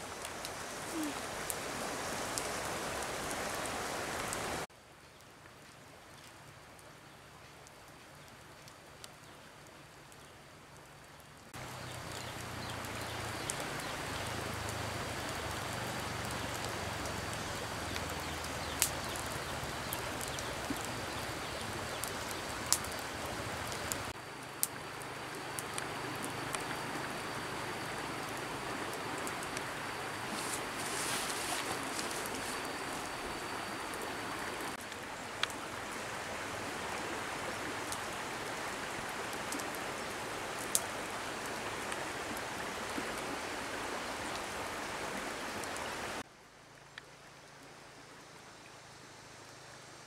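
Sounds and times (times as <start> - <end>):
campfire burning with crackles: 0.0 - 48.2.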